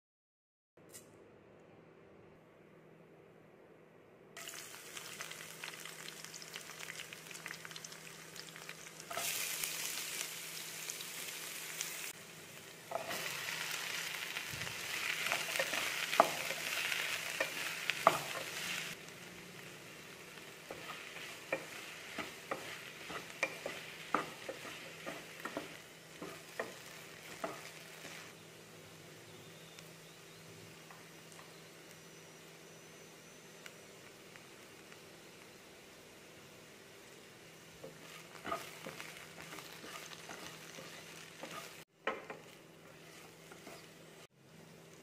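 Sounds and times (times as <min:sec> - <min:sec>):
hot oil sizzling in a pan: 0:04.4 - 0:45.0.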